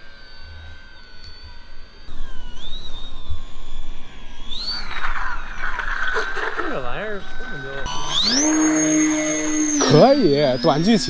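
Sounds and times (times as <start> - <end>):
model plane motor whining: 0.0 - 11.0.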